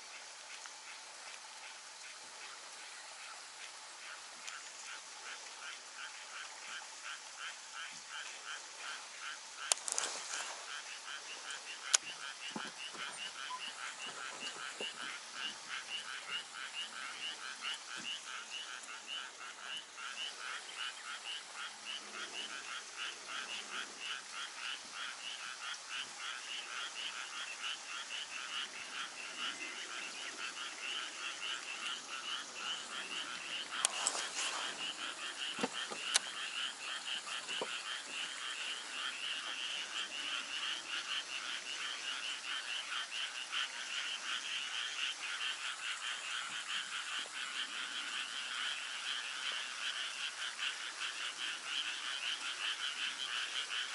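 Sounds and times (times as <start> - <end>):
frogs calling: 0.0 - 53.9.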